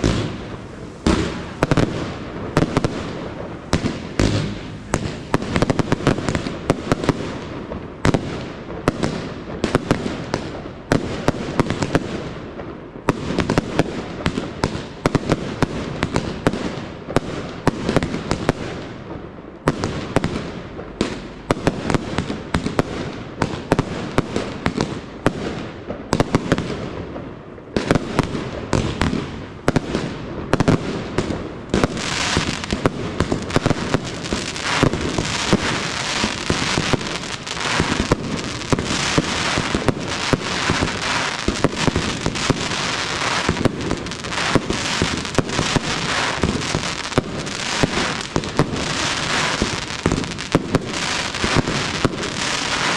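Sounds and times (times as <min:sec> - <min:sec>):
crackling fireworks stars: 0:00.0 - 0:52.9
fireworks bangs: 0:00.0 - 0:52.9.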